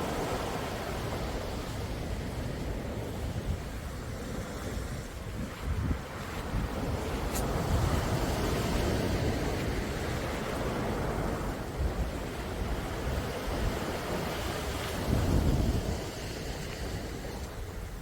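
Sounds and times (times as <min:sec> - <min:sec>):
sea waves washing on shore: 0:00.0 - 0:18.0
wind rumbling on microphone: 0:00.0 - 0:18.0.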